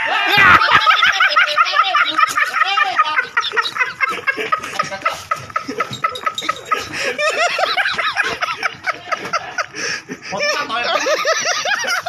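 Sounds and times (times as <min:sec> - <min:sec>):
person laughing: 0:00.1 - 0:12.0.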